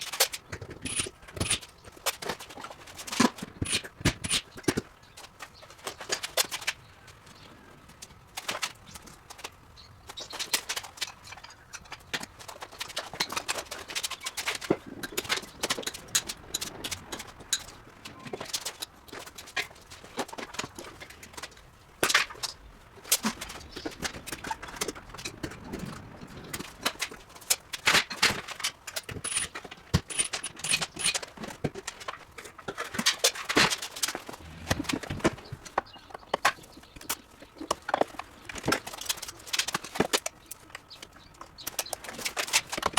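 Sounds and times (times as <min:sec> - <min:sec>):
objects being handled: 0:00.0 - 0:06.6, 0:10.2 - 0:42.9.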